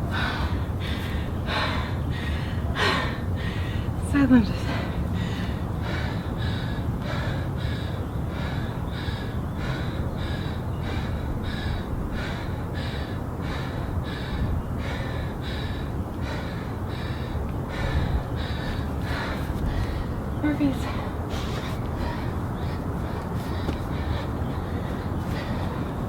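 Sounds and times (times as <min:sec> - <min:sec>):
steady low rumble: 0:00.0 - 0:26.0
woman breathing hard: 0:00.0 - 0:26.0.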